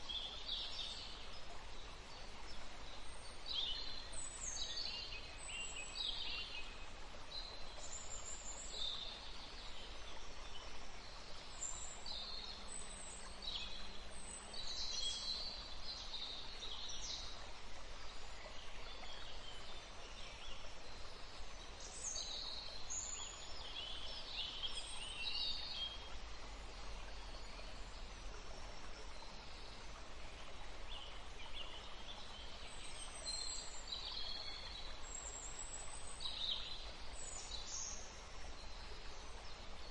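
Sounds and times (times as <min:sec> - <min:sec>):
background hiss: 0:00.0 - 0:39.9.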